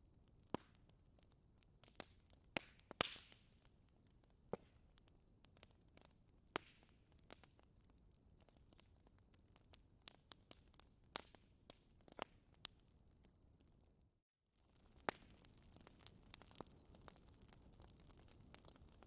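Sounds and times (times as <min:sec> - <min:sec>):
wood fire crackling: 0:00.1 - 0:14.0, 0:14.6 - 0:19.0.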